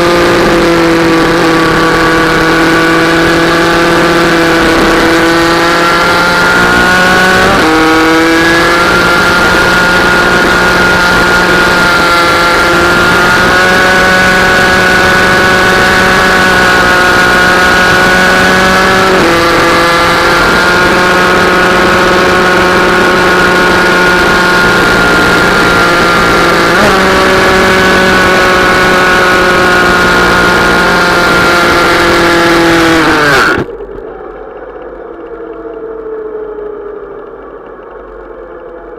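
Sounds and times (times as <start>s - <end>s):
minibike engine at high revs: 0.0s - 38.9s.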